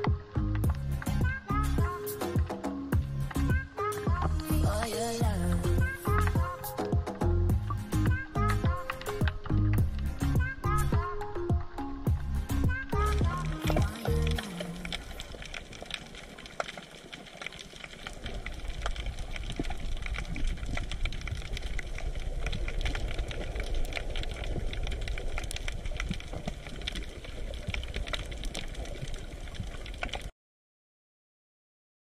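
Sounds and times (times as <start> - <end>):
underwater crackle of clicks: 0.0 - 30.3
low underwater rumble: 3.0 - 30.3.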